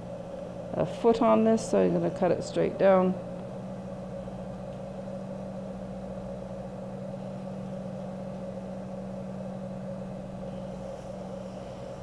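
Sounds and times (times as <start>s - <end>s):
potter's wheel motor humming: 0.0s - 12.0s.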